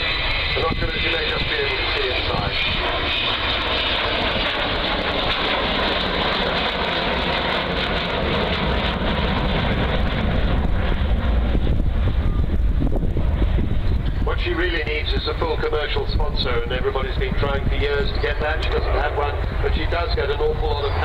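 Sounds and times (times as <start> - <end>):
jet roar: 0.0 - 21.0.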